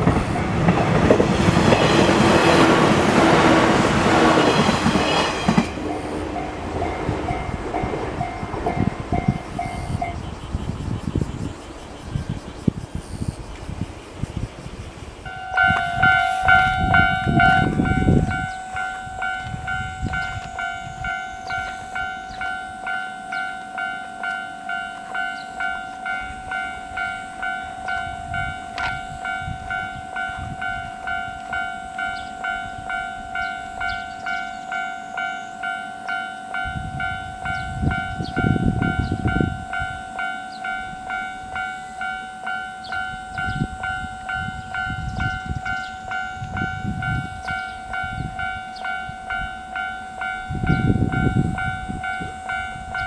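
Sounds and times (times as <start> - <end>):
level-crossing warning bell ringing: 0.0 - 12.4, 15.2 - 53.0.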